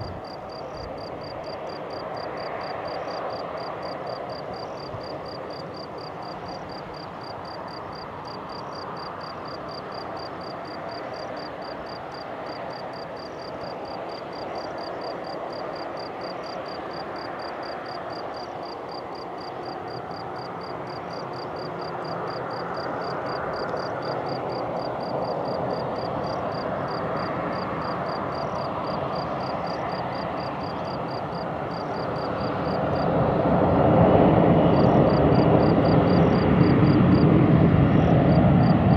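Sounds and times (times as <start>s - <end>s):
jet engines rushing hum: 0.0s - 38.9s.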